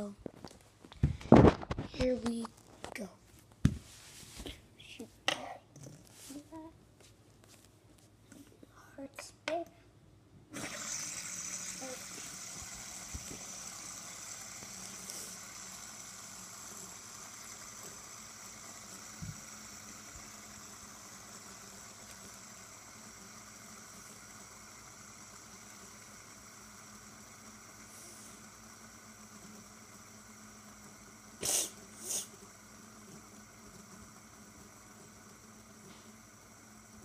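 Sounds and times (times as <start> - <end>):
fidget spinner whirring on floor: 0.0 - 9.7, 10.4 - 37.0.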